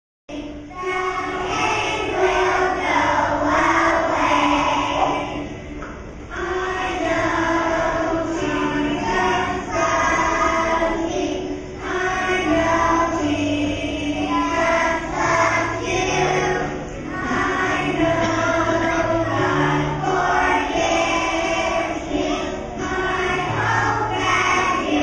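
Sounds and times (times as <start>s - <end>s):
children singing together: 0.3s - 25.0s.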